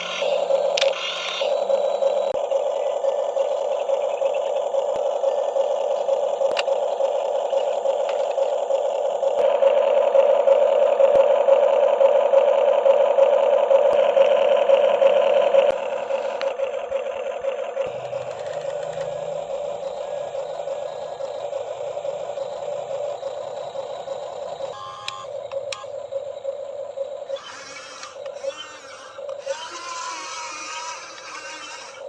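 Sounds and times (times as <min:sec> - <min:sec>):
small electric motors whirring: 0:00.0 - 0:32.0.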